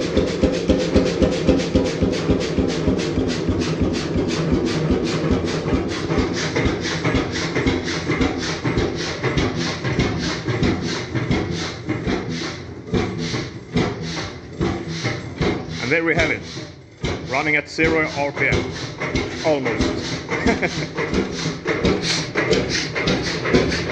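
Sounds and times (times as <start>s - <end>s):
single-cylinder engine beating: 0.0s - 23.9s.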